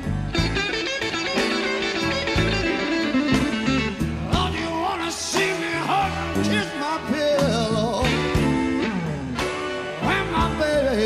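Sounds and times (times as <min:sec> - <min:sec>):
blues-rock guitar: 0:00.0 - 0:11.0
steady drum beat: 0:01.4 - 0:11.0.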